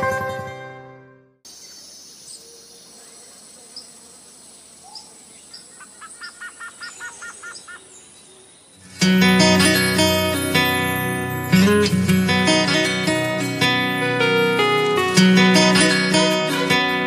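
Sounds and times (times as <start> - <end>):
outdoor background hiss: 1.4 - 17.0
birds chirping: 1.5 - 16.8.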